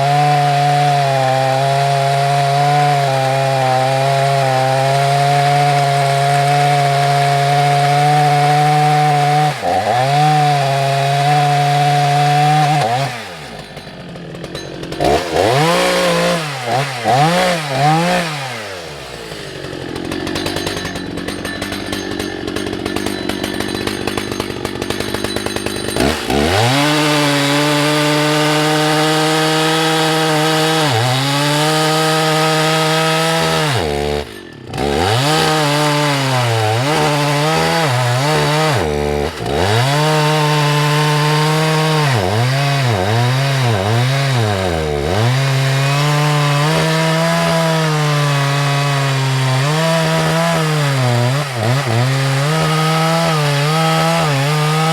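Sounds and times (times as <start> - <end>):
chainsaw cutting log: 0.0 - 54.9.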